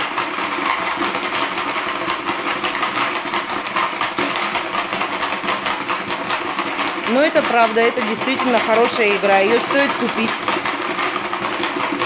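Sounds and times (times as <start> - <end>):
plastic marbles rattling: 0.0 - 12.0.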